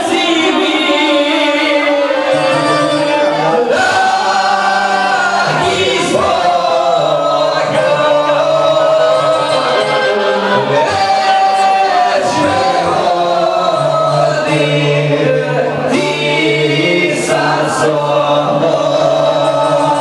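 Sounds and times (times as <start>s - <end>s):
live folk band playing: 0.0s - 20.0s
voices singing together: 0.0s - 20.0s.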